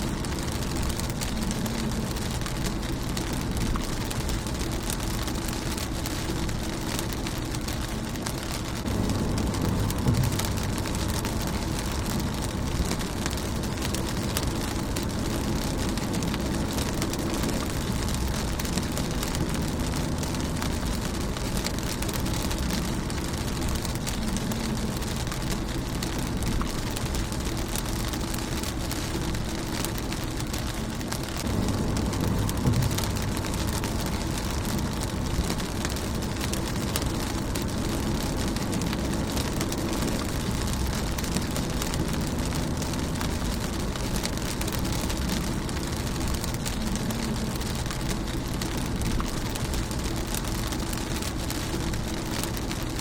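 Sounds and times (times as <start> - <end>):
rain on car windshield: 0.0 - 53.0.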